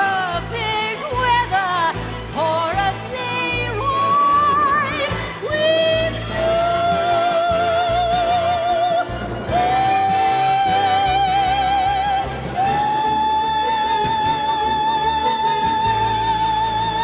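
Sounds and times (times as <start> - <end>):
orchestral music: 0.0 - 17.0.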